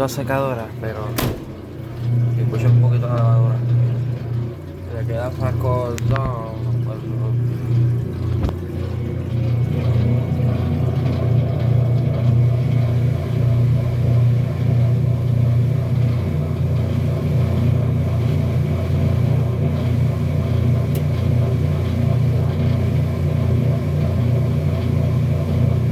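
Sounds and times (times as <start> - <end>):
washing machine humming: 0.0 - 25.9.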